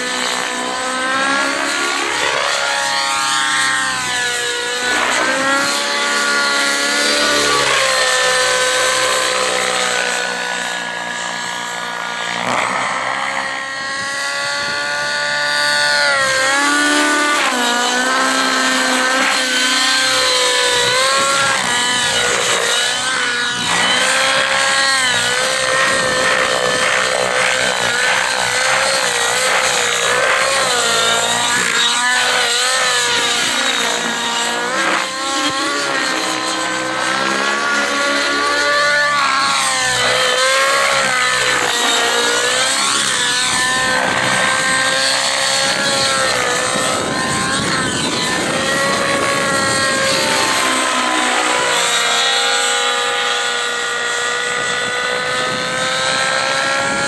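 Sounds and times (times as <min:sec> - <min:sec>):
model helicopter engine and rotor: 0:00.0 - 0:57.0.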